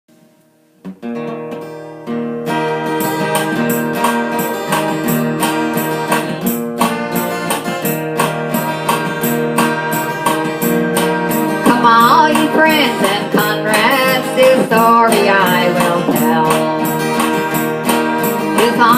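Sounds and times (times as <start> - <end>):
acoustic guitar strumming: 0.1 - 18.9
bending guitar melody line: 0.2 - 18.9.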